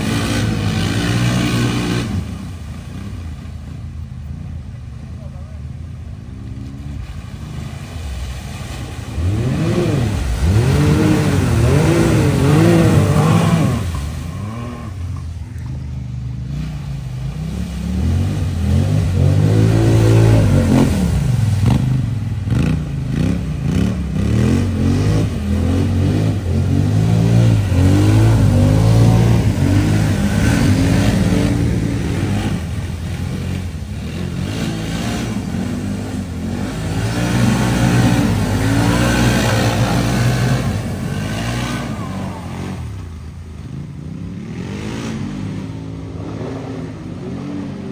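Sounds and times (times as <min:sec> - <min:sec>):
off-road vehicle engines revving: 0:00.0 - 0:47.9
water splashing: 0:00.0 - 0:47.9.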